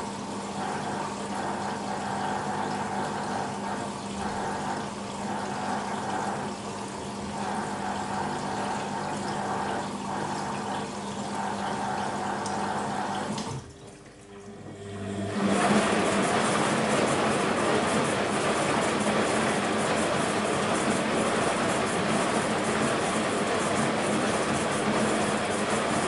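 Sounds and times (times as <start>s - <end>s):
washing machine pump hum: 0.0s - 26.0s
water running in washing machine: 0.0s - 26.0s.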